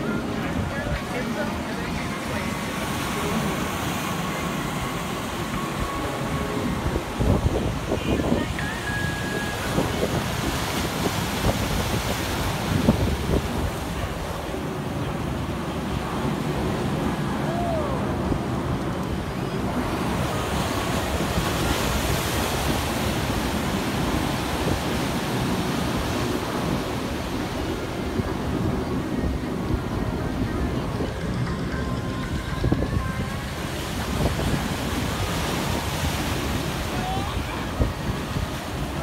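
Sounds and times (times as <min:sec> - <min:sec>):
ocean surf breaking: 0:00.0 - 0:39.0
wind rumble on microphone: 0:00.0 - 0:39.0.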